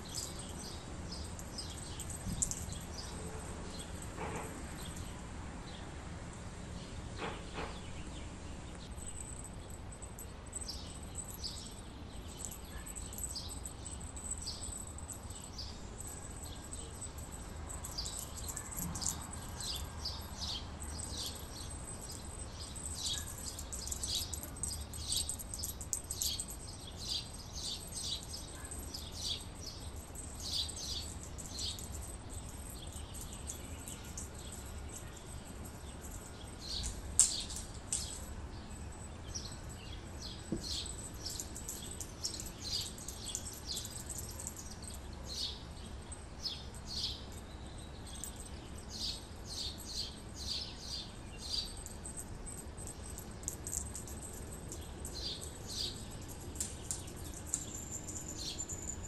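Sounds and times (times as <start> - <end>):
small birds chirping: 0.0 - 5.8, 6.8 - 59.0.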